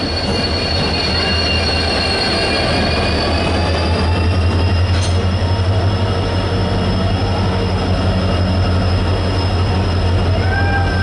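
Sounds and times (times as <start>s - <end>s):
train coaches rumbling: 0.0s - 11.0s
wheels squealing on rails: 0.0s - 11.0s.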